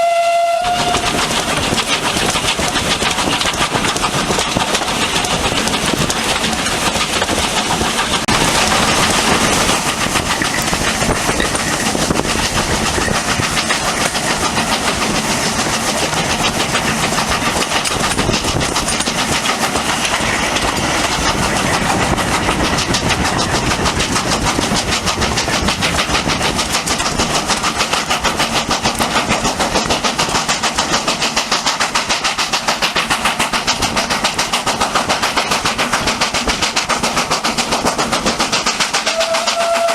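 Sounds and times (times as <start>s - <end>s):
steam train chugging: 0.0s - 39.9s.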